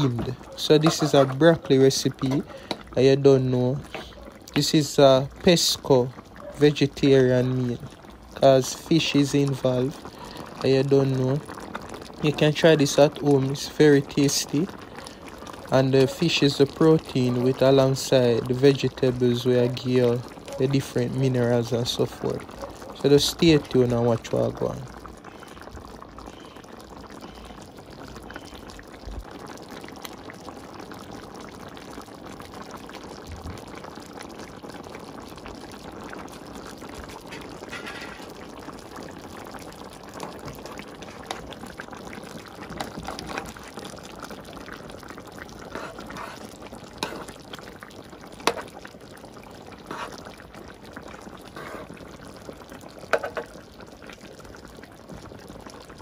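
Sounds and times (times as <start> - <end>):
sauce simmering and bubbling: 0.0 - 56.0.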